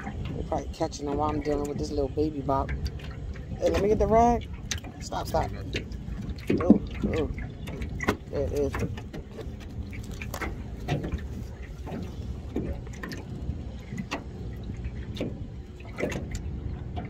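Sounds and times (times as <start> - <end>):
handling clicks and rustles: 0.0 - 17.0
steady low rumble: 0.0 - 17.0.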